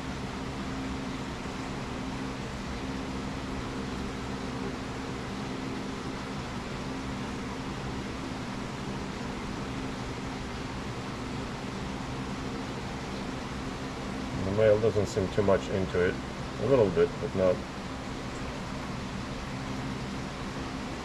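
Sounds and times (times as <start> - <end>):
machine hum with hiss: 0.0 - 21.0.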